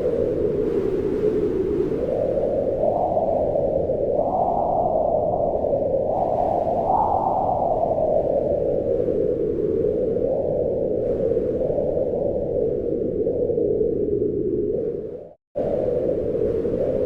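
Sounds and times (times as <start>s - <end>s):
wind blowing in gusts: 0.0s - 17.0s.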